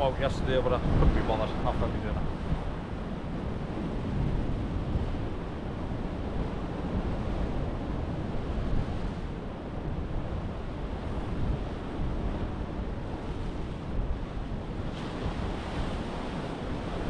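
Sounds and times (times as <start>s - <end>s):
surf washing against rocks: 0.0s - 17.0s
wind blowing across microphone: 0.0s - 17.0s.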